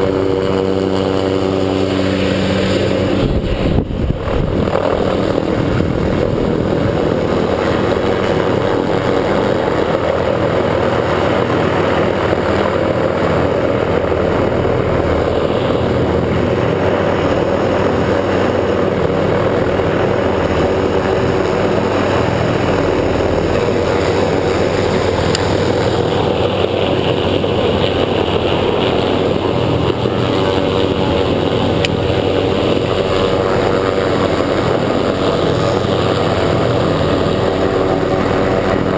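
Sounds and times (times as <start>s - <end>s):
helicopter flying overhead: 0.0s - 38.9s.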